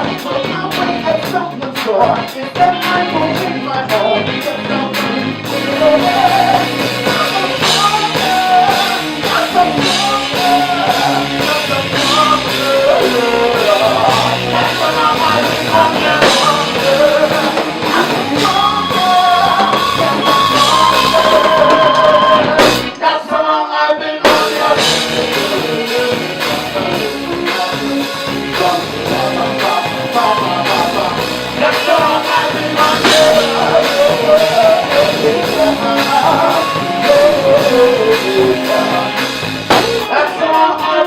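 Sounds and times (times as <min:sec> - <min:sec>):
live rock band playing: 0:00.0 - 0:23.2, 0:24.1 - 0:41.0
person singing: 0:00.0 - 0:41.0.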